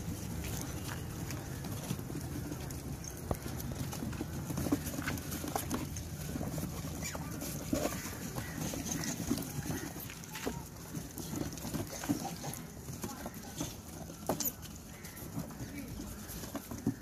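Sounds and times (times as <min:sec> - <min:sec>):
monkeys scratching at cardboard box: 0:00.0 - 0:17.0.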